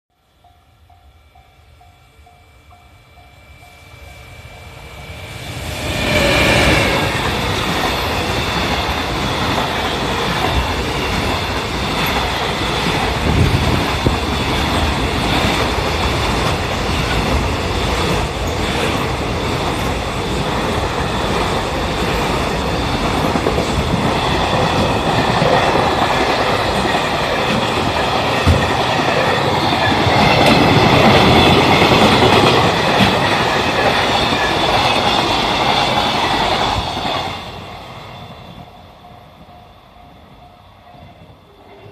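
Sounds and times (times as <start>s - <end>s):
freight train wagons rumbling on rails: 0.9s - 41.9s.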